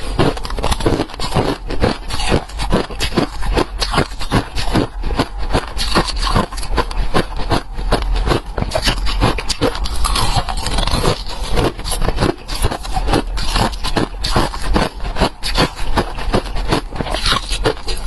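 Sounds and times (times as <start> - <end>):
chewing frost crunches: 0.0 - 18.0.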